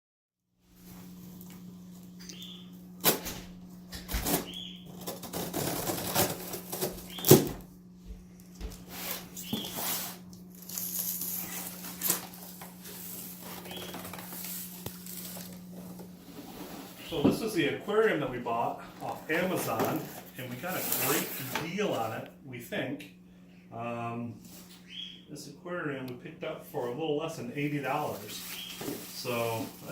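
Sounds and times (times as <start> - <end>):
steady low hum: 0.6 - 29.9.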